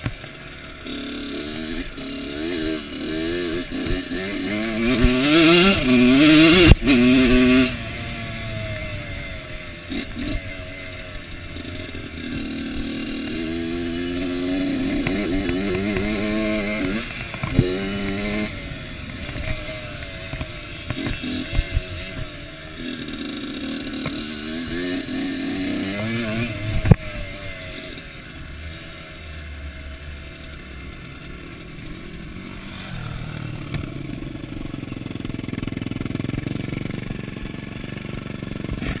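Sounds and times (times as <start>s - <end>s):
motocross bike engine revving: 0.0s - 39.0s.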